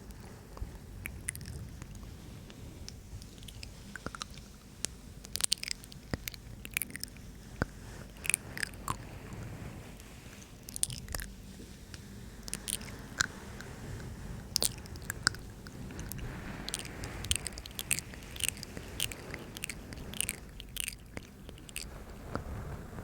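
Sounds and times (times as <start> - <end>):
wet lip and tongue clicks: 0.1 - 9.2, 10.4 - 11.4, 12.4 - 13.7, 14.5 - 22.4.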